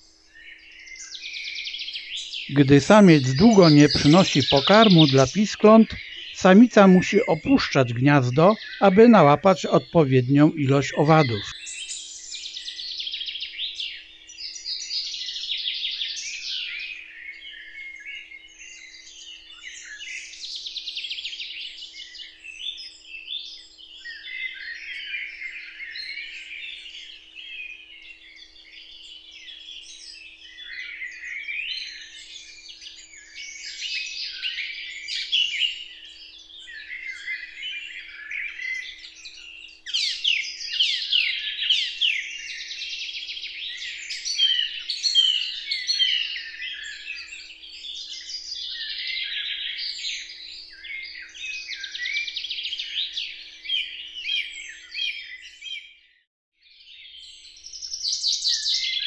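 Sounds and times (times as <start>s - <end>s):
songbirds singing and chirping: 0.0s - 55.8s.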